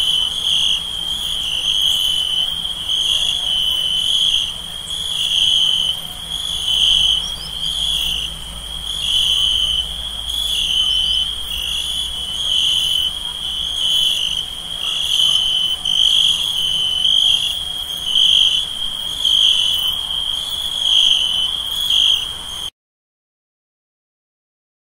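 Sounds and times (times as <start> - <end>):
crickets chirping: 0.0 - 22.7.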